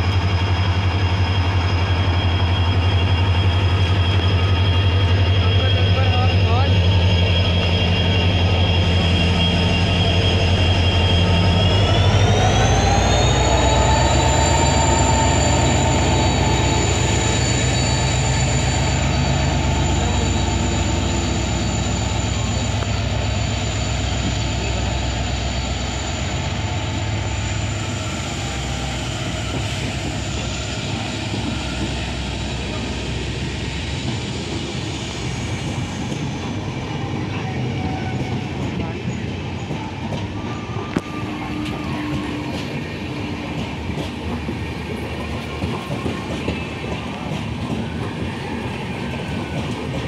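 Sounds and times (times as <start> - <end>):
coaches rolling on rails: 0.0 - 50.0
diesel locomotive pulling away: 0.0 - 50.0.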